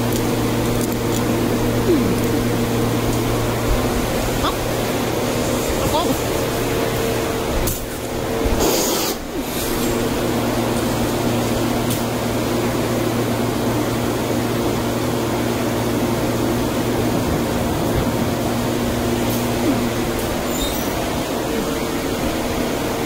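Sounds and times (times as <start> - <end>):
constant low hum: 0.0 - 23.0
gas furnace and fans roaring: 0.0 - 23.0.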